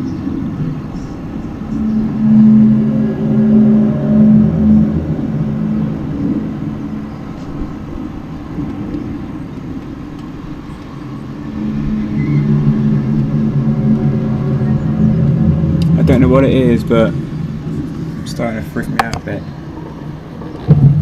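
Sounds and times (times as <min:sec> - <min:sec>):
low droning hum: 0:00.0 - 0:21.0.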